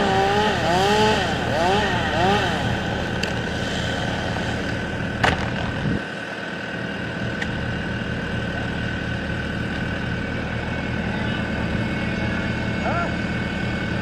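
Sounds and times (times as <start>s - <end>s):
engine idling: 0.0s - 14.0s
high whine: 0.0s - 14.0s.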